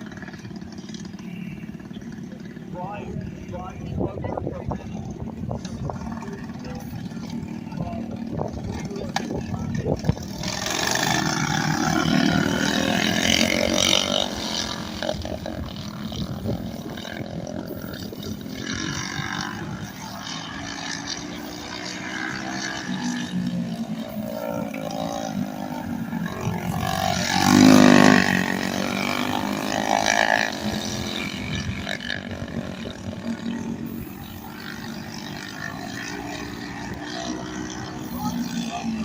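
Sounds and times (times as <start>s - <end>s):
kart engines revving past: 0.0s - 39.0s.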